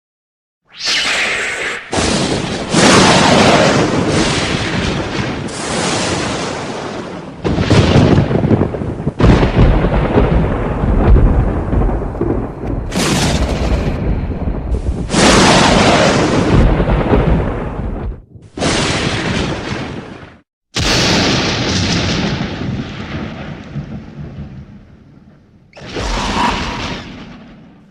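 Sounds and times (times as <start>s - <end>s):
thunderclaps rolling: 1.9s - 27.9s.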